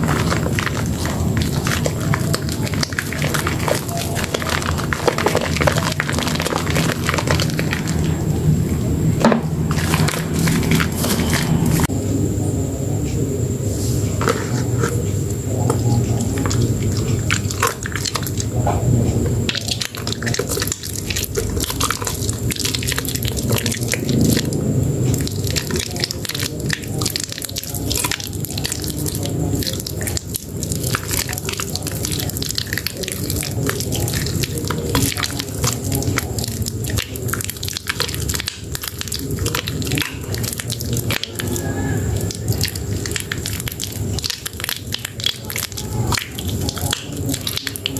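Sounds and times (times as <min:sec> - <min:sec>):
wet soap squishing and crackling: 0:00.0 - 0:11.9, 0:14.2 - 0:47.9
low steady hum: 0:00.0 - 0:47.9.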